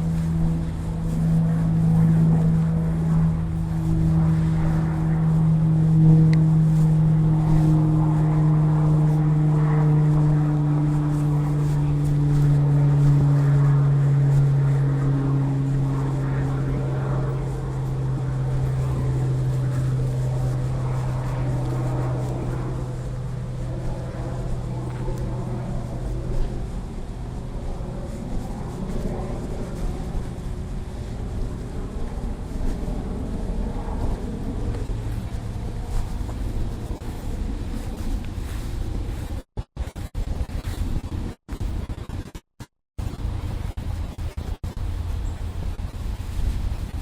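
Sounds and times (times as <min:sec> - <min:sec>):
low engine drone: 0:00.0 - 0:47.0.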